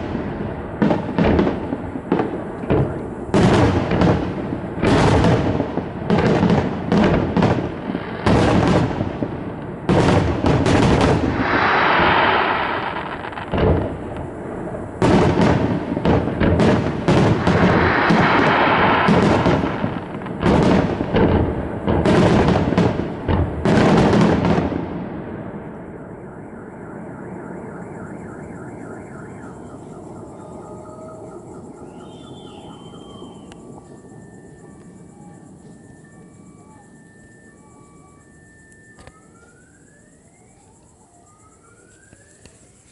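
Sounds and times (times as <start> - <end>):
fireworks crackling: 0.0 - 26.0, 28.8 - 40.8.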